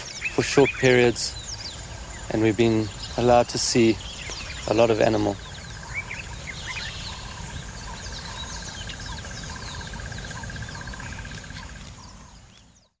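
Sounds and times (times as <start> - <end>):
insect pulsing trill: 0.0 - 12.5
birds chirping and whistling: 0.0 - 13.0.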